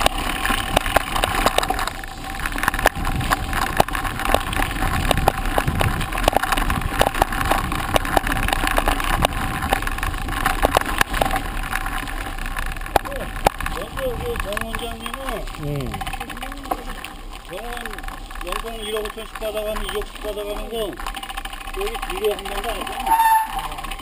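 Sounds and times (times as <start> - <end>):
bike rattling: 0.0 - 24.0
bike tyres crunching on gravel: 0.0 - 24.0.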